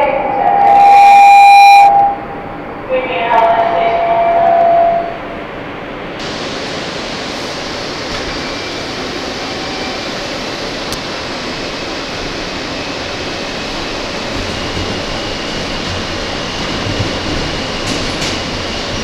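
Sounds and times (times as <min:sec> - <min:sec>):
subway car rushing noise: 0:00.0 - 0:19.0.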